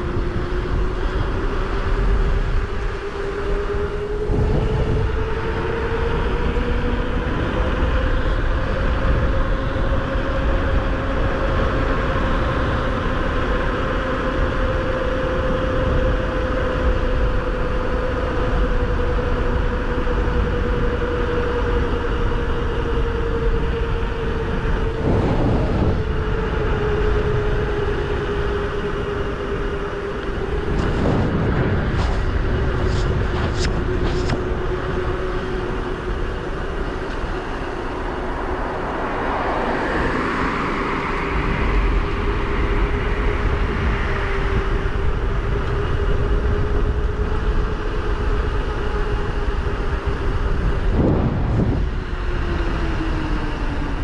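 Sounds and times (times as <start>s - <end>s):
constant rushing noise: 0.0s - 54.0s
mechanical whine: 0.0s - 54.0s.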